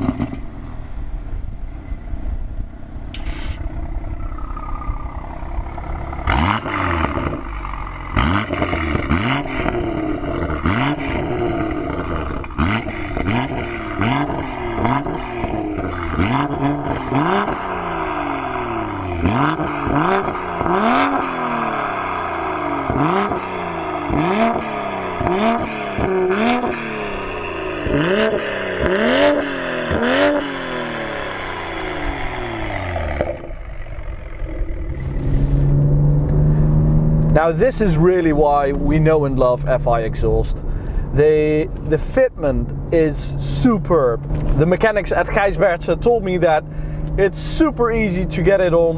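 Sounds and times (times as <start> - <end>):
exhaust cracks: 0.0 - 1.6, 2.6 - 48.9
car engine revving: 2.7 - 48.9.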